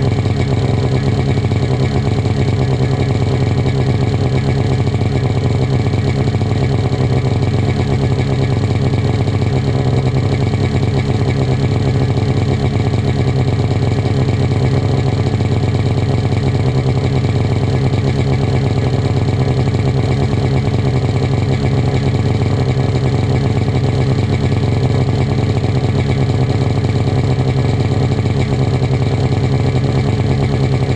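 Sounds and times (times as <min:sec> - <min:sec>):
snowmobile engine idling: 0:00.0 - 0:30.9.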